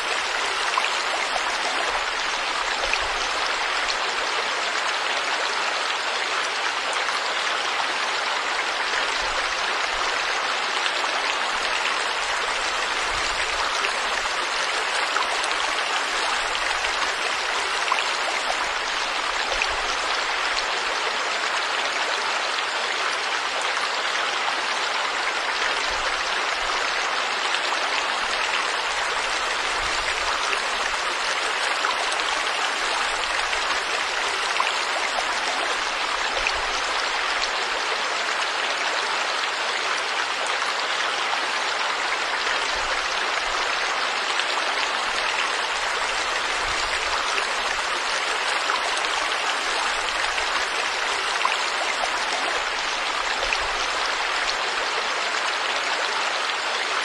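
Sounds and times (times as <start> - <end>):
stream water flowing over rocks: 0.0 - 57.0.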